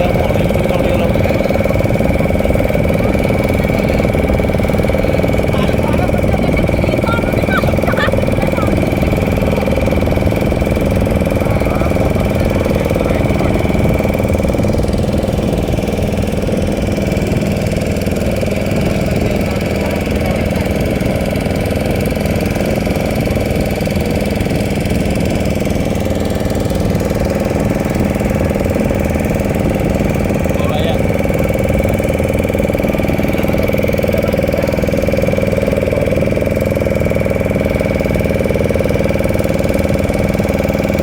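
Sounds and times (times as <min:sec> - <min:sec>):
motorboat engine droning: 0:00.0 - 0:41.0.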